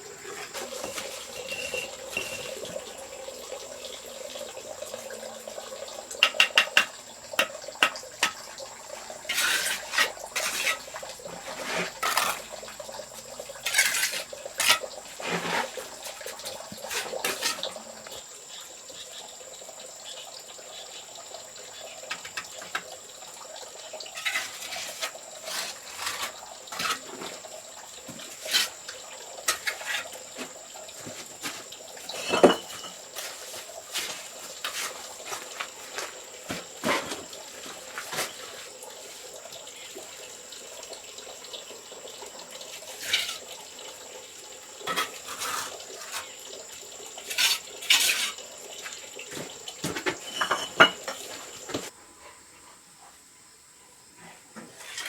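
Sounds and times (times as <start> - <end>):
water splashing and pouring: 0.0 - 18.3, 21.5 - 51.9.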